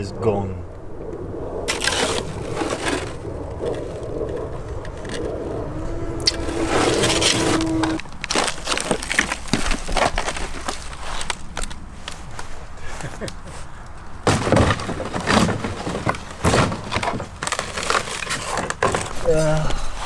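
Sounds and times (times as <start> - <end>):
foam crackling and snapping: 1.6 - 5.4, 6.2 - 19.8
rustling and scraping: 1.7 - 20.0.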